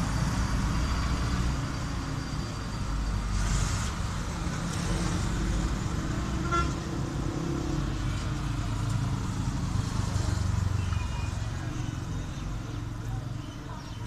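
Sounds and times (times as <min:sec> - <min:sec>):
road vehicles rumbling: 0:00.0 - 0:14.0.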